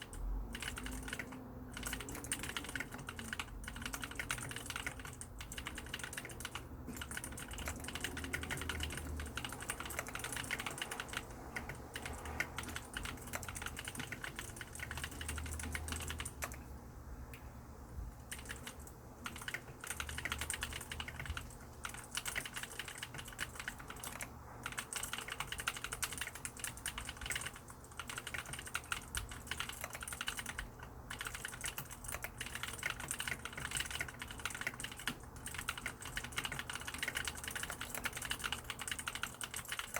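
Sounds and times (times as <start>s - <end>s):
mechanical keyboard clicking: 0.0s - 16.6s, 18.3s - 39.9s.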